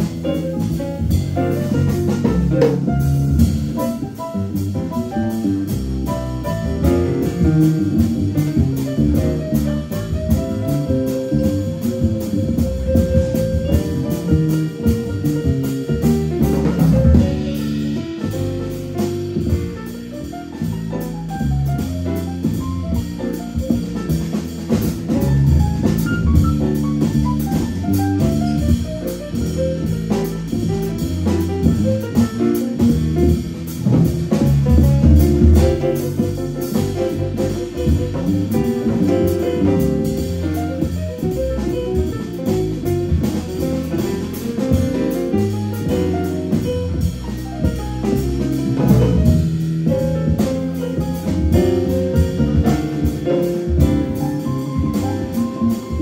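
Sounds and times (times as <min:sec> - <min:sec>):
double bass line: 0:00.0 - 0:56.0
jazz trio playing: 0:00.0 - 0:56.0.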